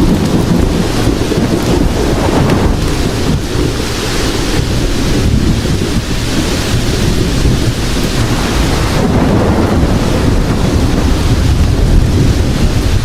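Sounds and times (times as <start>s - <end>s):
heavy rain downpour: 0.0s - 13.0s
low rumble of thunder: 0.0s - 13.0s.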